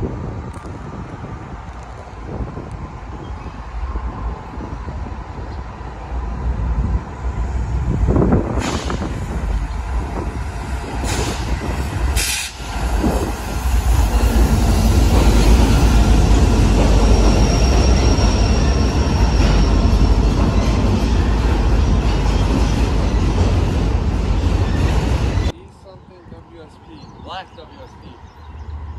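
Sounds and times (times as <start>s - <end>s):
diesel locomotives passing: 0.0s - 28.9s
train cars rumbling and rolling: 0.0s - 28.9s.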